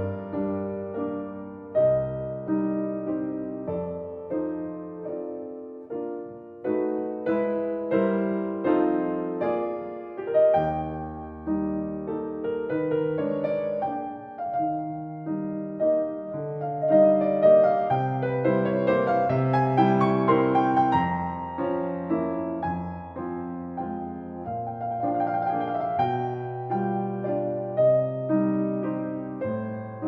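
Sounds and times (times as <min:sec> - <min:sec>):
slow gentle solo piano piece: 0:00.0 - 0:30.0.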